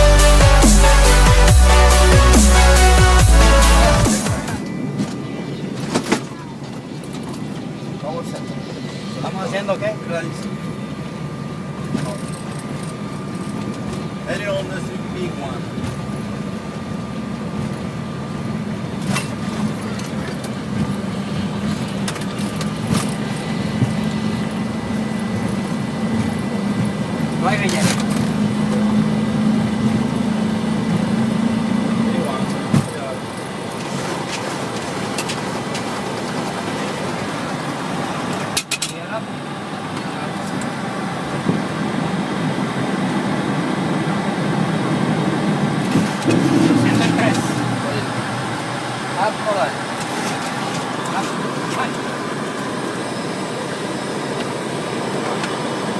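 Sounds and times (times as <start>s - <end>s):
cockpit engine and air hum: 0.0s - 55.9s.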